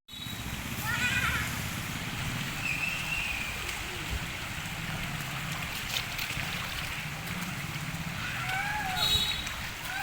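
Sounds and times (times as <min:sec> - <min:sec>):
rainwater running and gurgling: 0:00.2 - 0:10.0
heavy rain falling: 0:00.6 - 0:10.0.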